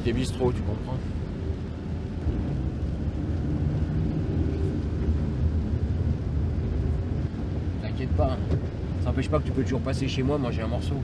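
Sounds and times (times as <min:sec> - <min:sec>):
road noise: 0:00.0 - 0:11.0
van engine rumble: 0:00.0 - 0:11.0.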